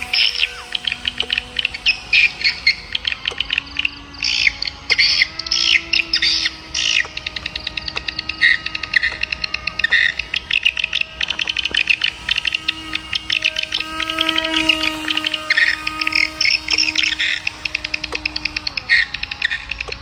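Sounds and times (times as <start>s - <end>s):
birds chirping: 0.0s - 20.0s
faint held low tones: 0.0s - 20.0s.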